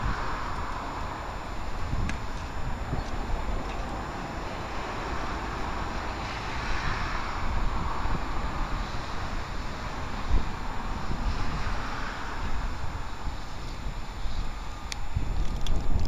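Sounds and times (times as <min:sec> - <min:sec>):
steady outdoor rumble: 0:00.0 - 0:16.0
wind buffeting microphone: 0:00.0 - 0:16.0.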